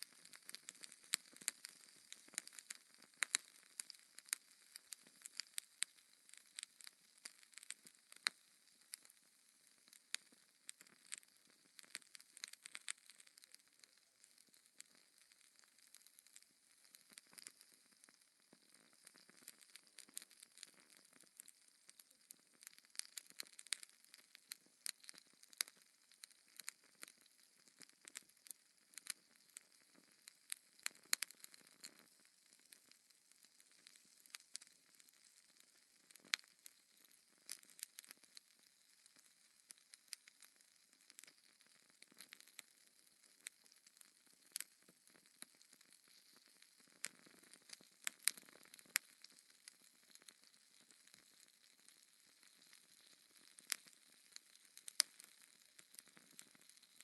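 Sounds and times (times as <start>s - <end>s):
wood fire crackling: 0.0s - 9.1s, 9.8s - 40.4s, 41.1s - 41.4s, 42.0s - 42.6s, 43.3s - 57.0s
faint steady hiss: 0.0s - 57.0s.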